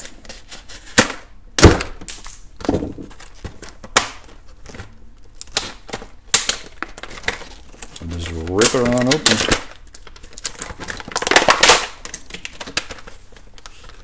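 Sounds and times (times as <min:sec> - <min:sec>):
plastic packaging cracking and snapping: 0:00.0 - 0:14.0.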